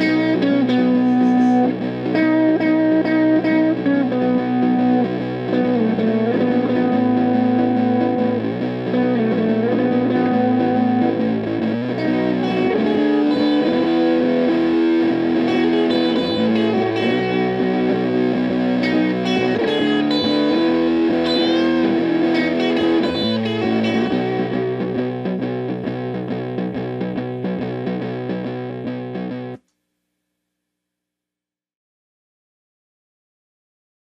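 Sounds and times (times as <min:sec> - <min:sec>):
distorted fuzz electric guitar chords: 0:00.0 - 0:29.6.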